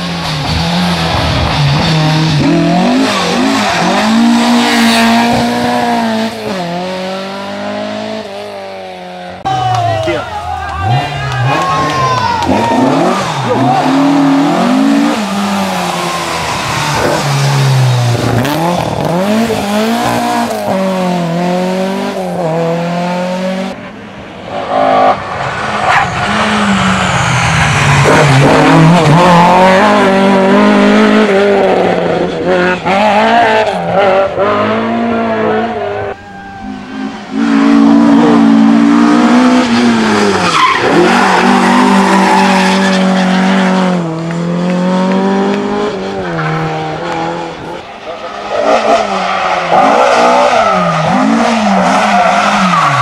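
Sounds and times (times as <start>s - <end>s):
rally car engine revving: 0.0s - 9.5s, 10.6s - 53.0s.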